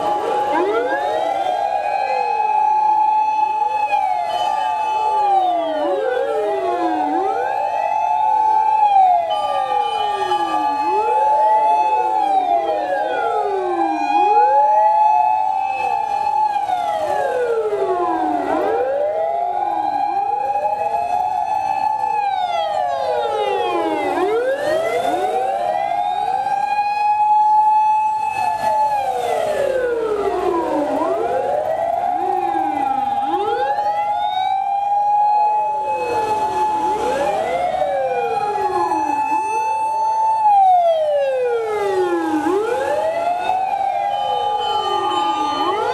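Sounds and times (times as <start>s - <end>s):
fire engine sirens wailing: 0.0s - 45.9s.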